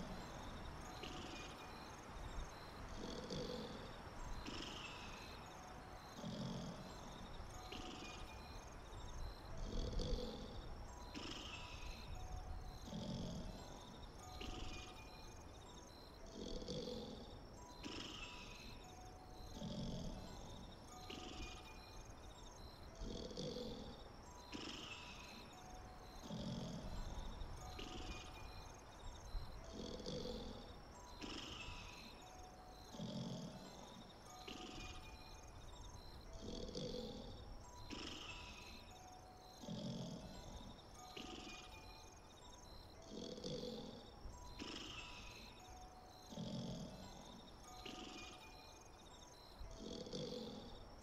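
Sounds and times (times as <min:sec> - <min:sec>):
background hiss: 0:00.0 - 0:51.0
faint high pulsing tones: 0:00.0 - 0:51.0
soft purring or snoring: 0:00.0 - 0:51.0.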